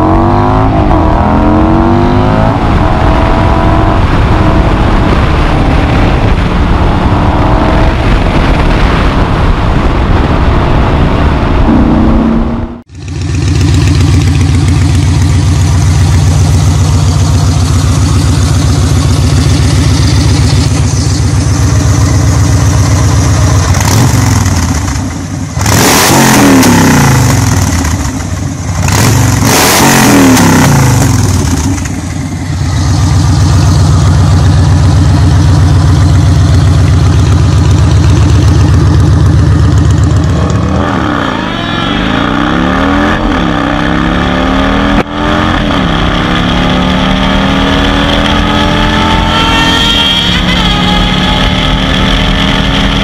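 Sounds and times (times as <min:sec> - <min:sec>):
motorcycle engine idling and revving: 0:00.0 - 0:53.0.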